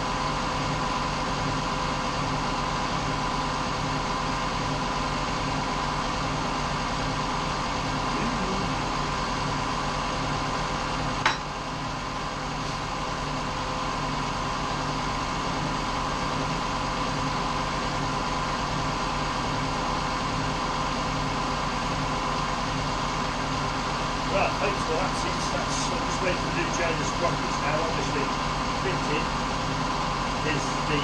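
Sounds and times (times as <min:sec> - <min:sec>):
machine humming with steady tones: 0:00.0 - 0:31.0.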